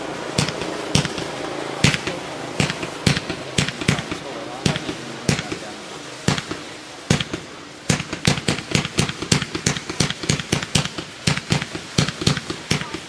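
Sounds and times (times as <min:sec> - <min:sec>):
firework cake shots popping: 0:00.4 - 0:13.0.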